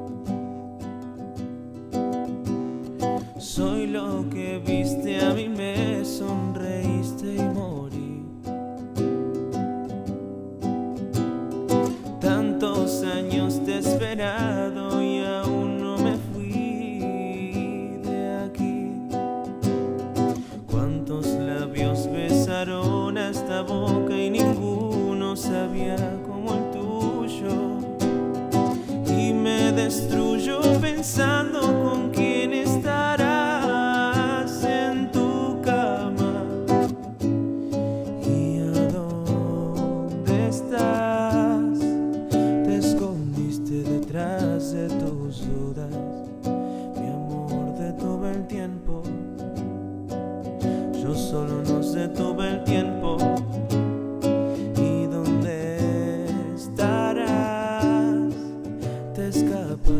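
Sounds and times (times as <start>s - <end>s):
acoustic guitar strumming: 0.0s - 59.9s
man singing: 3.0s - 8.8s, 11.7s - 49.8s, 50.5s - 59.9s.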